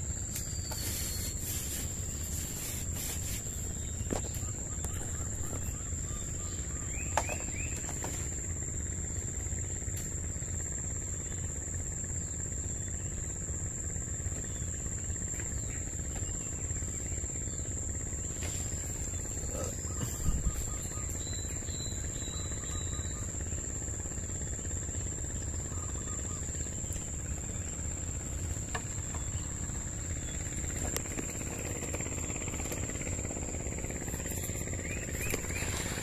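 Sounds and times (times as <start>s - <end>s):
insect trilling: 0.0s - 36.0s.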